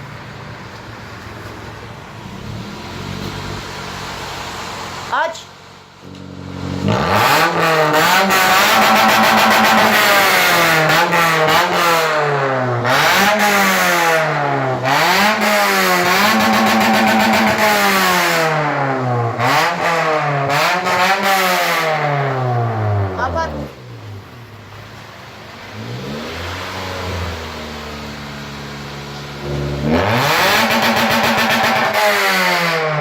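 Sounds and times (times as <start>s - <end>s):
car engine revving through exhaust: 2.2s - 5.1s, 6.1s - 33.0s.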